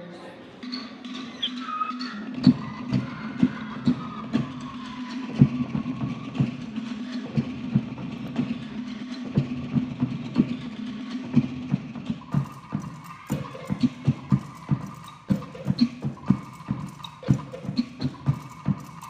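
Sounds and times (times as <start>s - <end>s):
skin drums playing dance rhythm: 0.6s - 19.0s.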